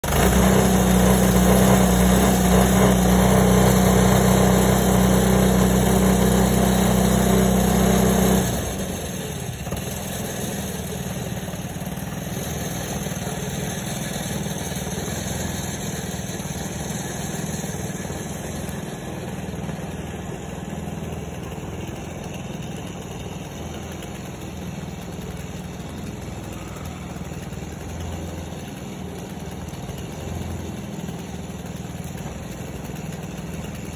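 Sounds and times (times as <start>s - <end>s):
chainsaw engine running: 0.0s - 33.9s.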